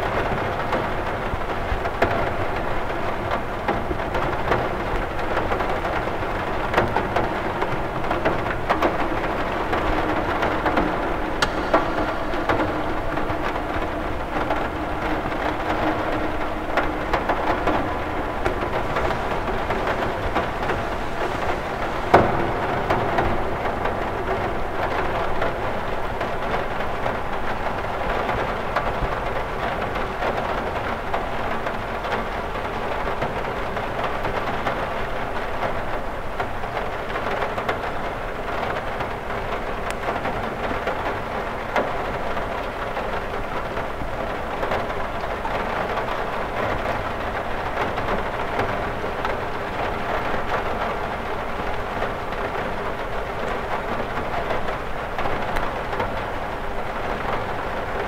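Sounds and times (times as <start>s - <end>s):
rain pattering on glass: 0.0s - 58.0s.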